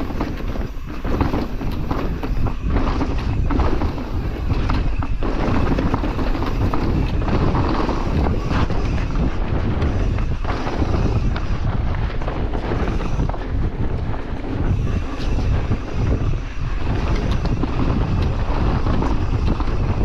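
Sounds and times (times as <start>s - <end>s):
bike rattling over bumps: 0.0s - 20.0s
tyres rolling over dirt: 0.0s - 20.0s
wind rushing over microphone: 0.0s - 20.0s.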